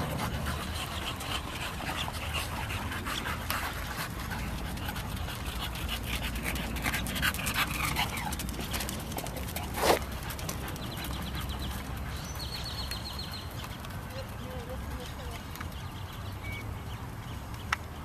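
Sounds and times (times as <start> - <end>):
dog panting: 0.0 - 14.9
dog steps on pavement: 0.0 - 18.0.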